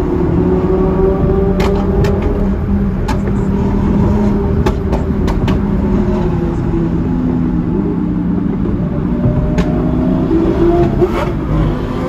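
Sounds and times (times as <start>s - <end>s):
car engines cruising: 0.0s - 12.0s.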